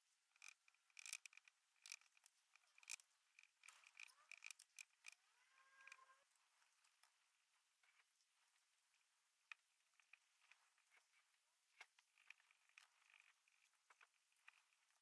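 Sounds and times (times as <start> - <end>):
paintbrush ticking and scratching: 0.0 - 15.0.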